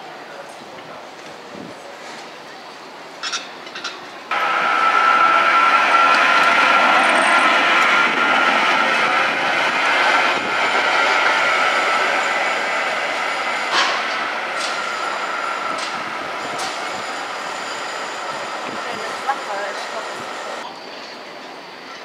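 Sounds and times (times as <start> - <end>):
tram passing on rails: 0.0 - 22.0
high-pitched whine: 4.3 - 22.0.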